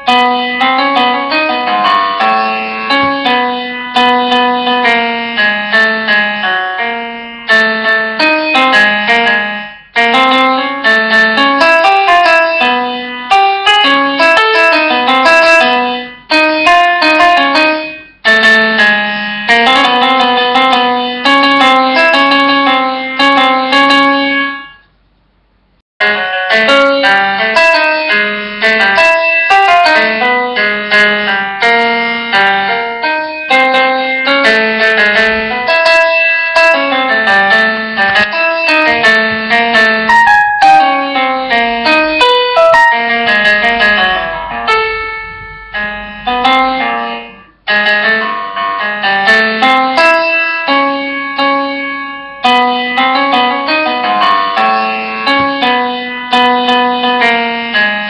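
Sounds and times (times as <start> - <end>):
piano music: 0.0 - 24.9, 26.0 - 58.0.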